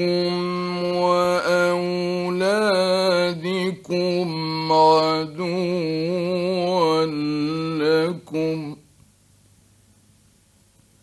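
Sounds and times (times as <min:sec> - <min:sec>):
man reciting in melodic phrases: 0:00.0 - 0:08.9.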